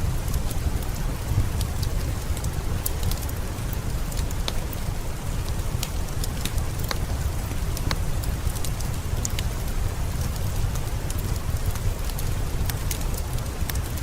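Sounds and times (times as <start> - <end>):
heavy rain: 0.0 - 14.0
wood fire crackling: 0.0 - 14.0.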